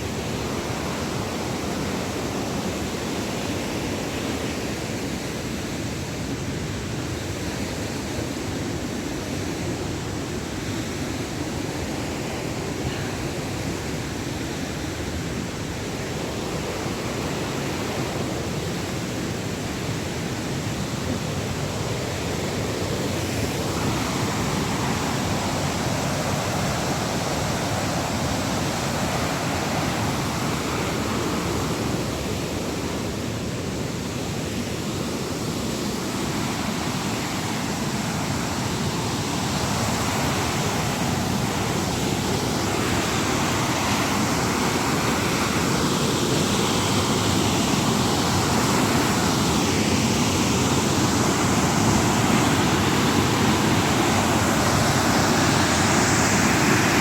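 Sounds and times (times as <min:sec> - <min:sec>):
waterfall rushing: 0:09.4 - 0:57.0.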